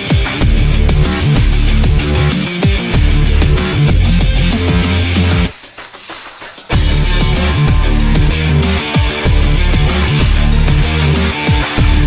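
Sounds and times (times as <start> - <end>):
music with a heavy beat: 0.0 - 12.0.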